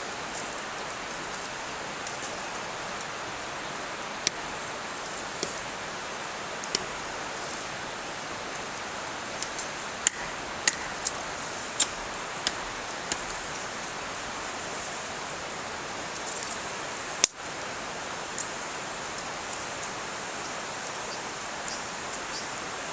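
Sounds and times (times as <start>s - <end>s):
campfire crackling: 0.1s - 20.2s.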